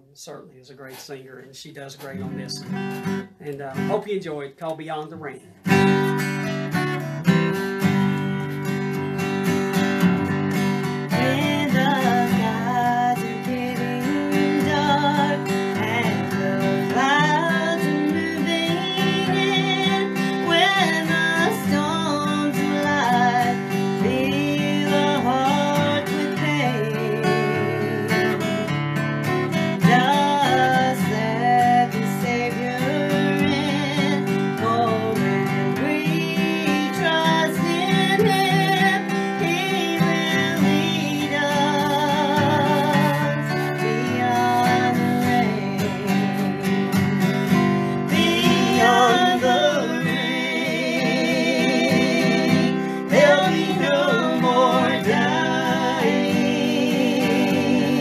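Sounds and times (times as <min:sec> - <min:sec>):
acoustic guitar strumming: 0:00.0 - 0:58.0
woman singing: 0:10.9 - 0:58.0.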